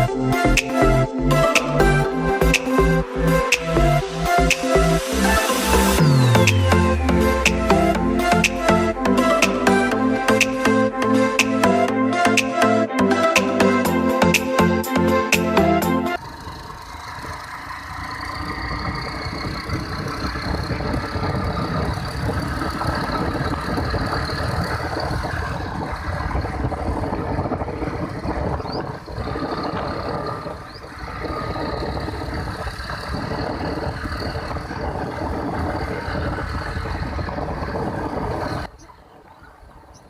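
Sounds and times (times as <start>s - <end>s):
motorcycle engine: 0.0s - 38.8s
road noise: 0.0s - 40.0s.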